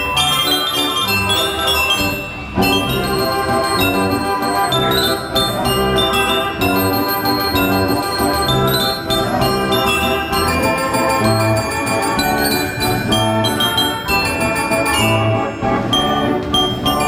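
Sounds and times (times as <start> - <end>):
band organ playing a lively tune: 0.0 - 17.0
glockenspiel bells ringing: 0.0 - 17.0.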